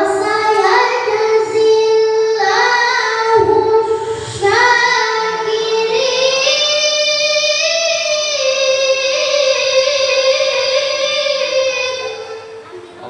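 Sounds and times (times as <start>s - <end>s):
boy reciting in melodic style: 0.0s - 13.0s.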